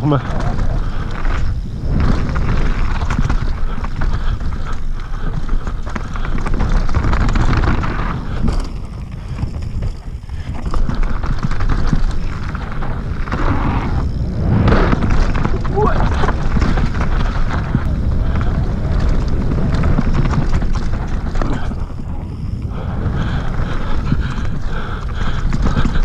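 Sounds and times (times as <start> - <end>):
bike rattling and knocking: 0.0 - 26.0
wind buffeting microphone: 0.0 - 26.0.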